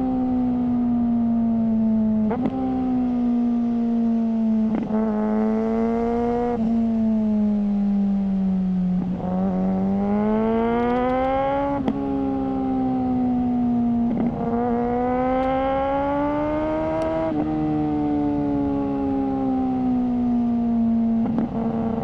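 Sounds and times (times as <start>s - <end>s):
motorcycle engine revving: 4.1s - 22.0s.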